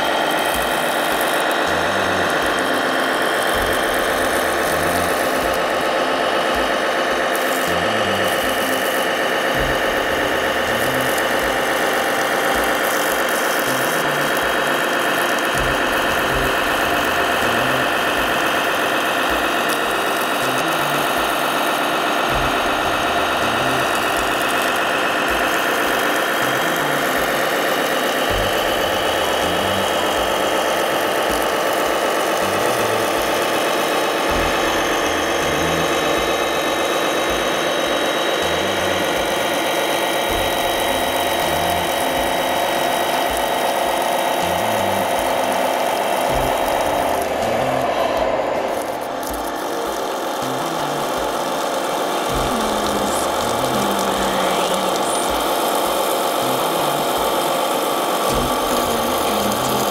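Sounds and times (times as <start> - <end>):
model fire truck droning: 0.0 - 59.9.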